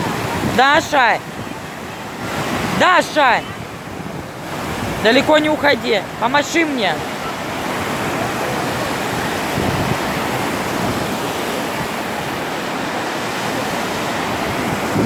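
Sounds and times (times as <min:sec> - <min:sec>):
rough surf rushing: 0:00.0 - 0:15.0.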